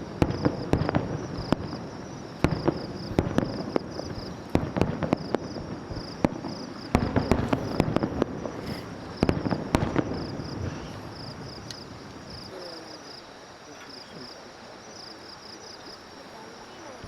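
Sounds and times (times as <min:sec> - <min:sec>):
fireworks bursting with sharp bangs: 0:00.0 - 0:17.0
fireworks crackle and rumble: 0:00.0 - 0:17.0
insect chirping: 0:00.0 - 0:17.0.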